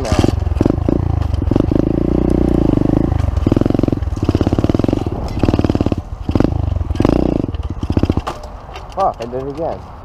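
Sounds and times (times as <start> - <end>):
small motorbike engine revving: 0.0 - 8.4.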